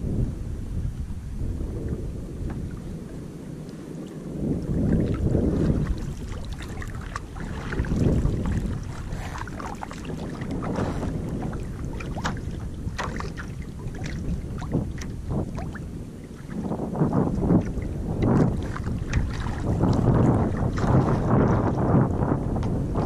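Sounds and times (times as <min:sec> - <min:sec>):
wind rumble on microphone: 0:00.0 - 0:23.0
water splashing against boat hull: 0:01.9 - 0:23.0.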